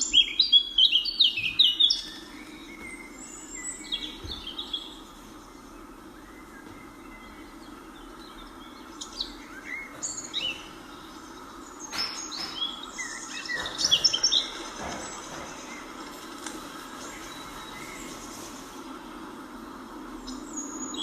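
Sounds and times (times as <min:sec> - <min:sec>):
birds chirping and whistling: 0:00.0 - 0:21.0
steady background hum: 0:00.0 - 0:21.0.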